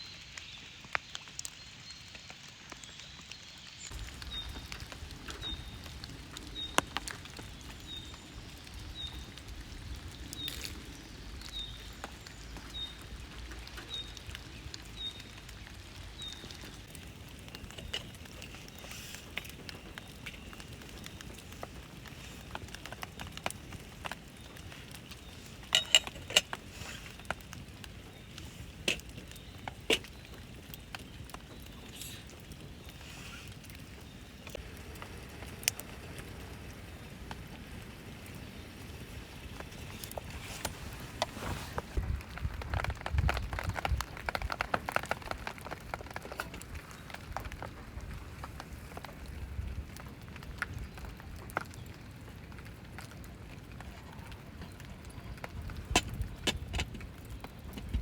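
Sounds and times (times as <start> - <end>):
campfire crackling: 0.0 - 58.0
light rain pattering: 0.0 - 58.0.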